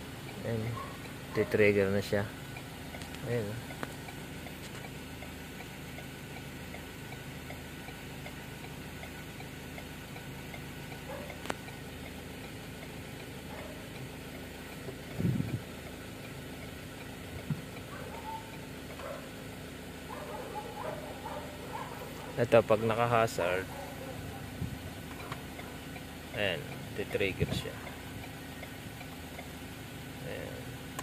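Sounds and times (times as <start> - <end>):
low steady hum: 0.0 - 31.0
turn signal ticking: 0.0 - 31.0.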